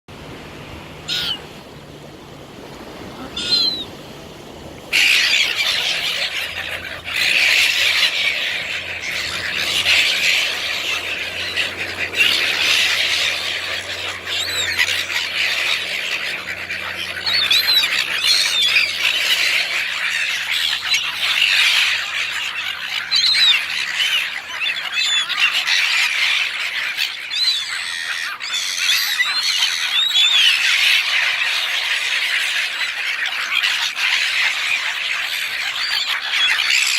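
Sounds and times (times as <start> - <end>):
gulls squawking: 1.0 - 1.7, 2.6 - 36.9.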